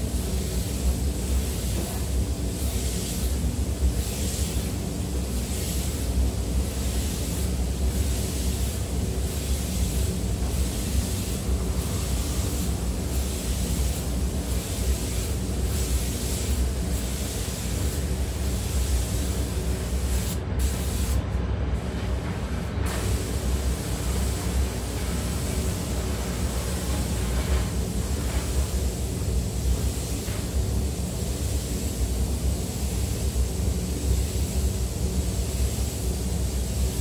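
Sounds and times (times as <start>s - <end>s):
spray gun hissing: 0.0s - 21.2s, 22.9s - 37.0s.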